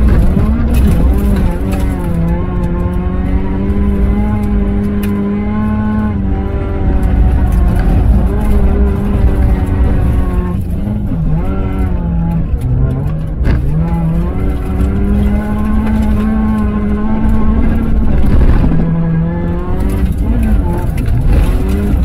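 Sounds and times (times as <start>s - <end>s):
heavy low rumble: 0.0s - 22.0s
race car engine revving: 0.0s - 22.0s.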